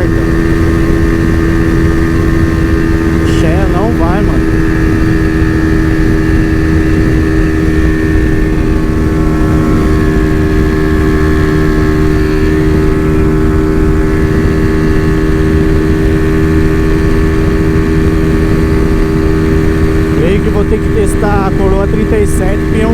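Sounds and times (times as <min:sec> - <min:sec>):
motorcycle engine at full throttle: 0:00.0 - 0:22.9
wind rush on microphone: 0:00.0 - 0:22.9.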